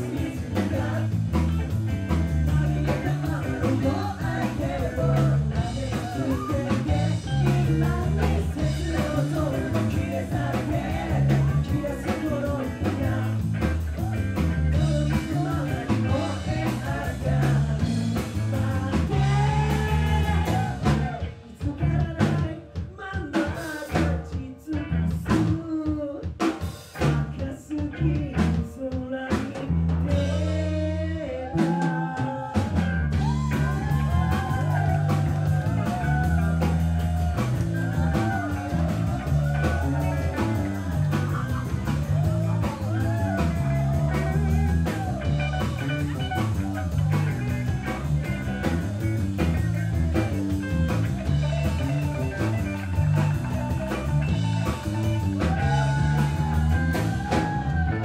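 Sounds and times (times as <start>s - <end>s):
man singing: 0.0s - 48.8s
rock band playing: 0.0s - 58.0s.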